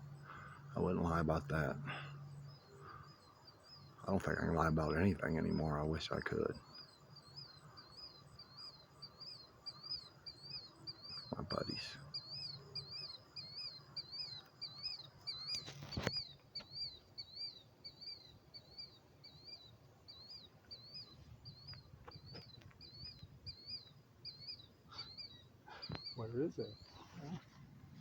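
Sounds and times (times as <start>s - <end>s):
killdeer calling: 0.0s - 27.1s.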